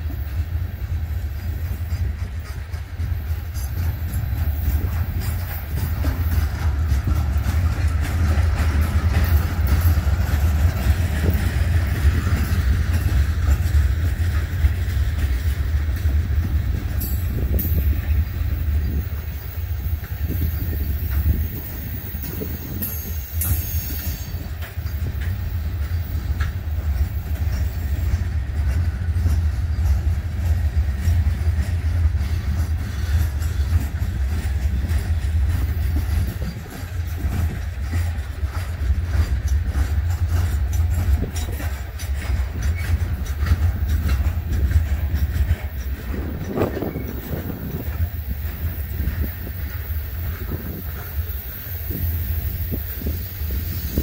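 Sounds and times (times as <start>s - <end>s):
train wheels rumbling on rail: 0.0s - 54.0s
wheels clicking over rail joints: 0.0s - 54.0s.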